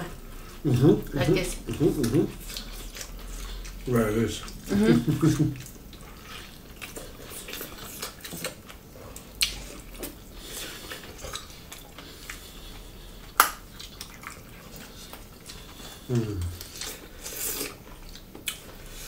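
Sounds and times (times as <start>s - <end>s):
wet mouth sounds: 0.8s - 18.7s.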